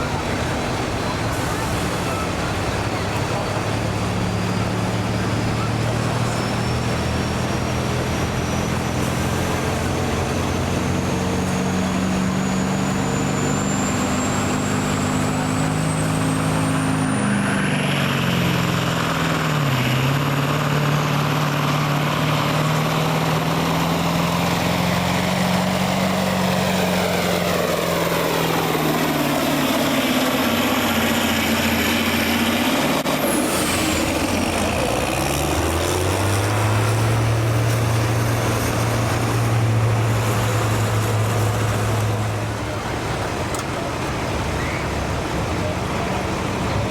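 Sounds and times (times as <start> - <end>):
engine running hard under load: 0.0 - 46.9.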